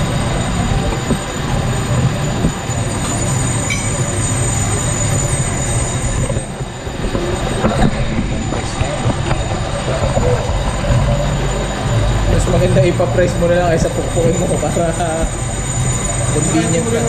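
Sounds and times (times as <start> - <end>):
high-pitched whine: 0.0 - 17.0
shop machinery running: 0.0 - 17.0.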